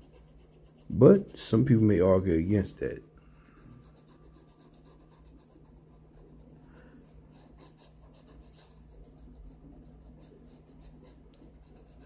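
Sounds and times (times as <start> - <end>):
pencil scratching on paper: 0.0 - 2.3, 3.5 - 12.0
low steady hum: 0.0 - 12.0.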